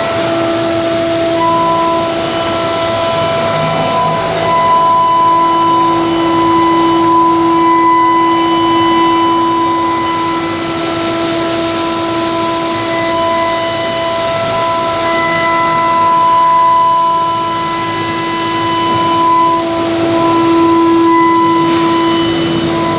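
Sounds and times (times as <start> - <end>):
milling cutter whining: 0.0 - 22.9.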